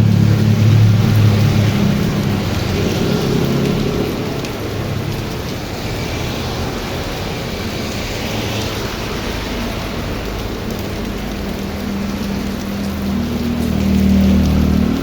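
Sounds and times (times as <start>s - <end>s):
heavy rain falling: 0.0s - 15.0s
vehicle engine hum: 0.0s - 15.0s.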